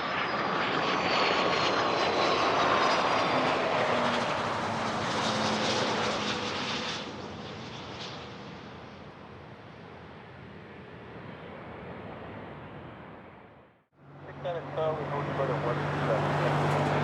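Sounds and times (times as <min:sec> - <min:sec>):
high engine whine: 0:00.0 - 0:17.0
jet engines rushing past: 0:00.0 - 0:17.0.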